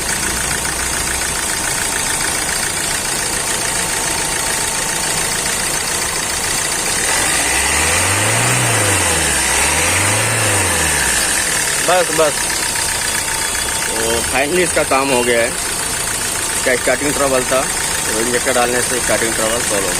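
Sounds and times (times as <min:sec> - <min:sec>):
diesel engine idling and revving: 0:00.0 - 0:19.9.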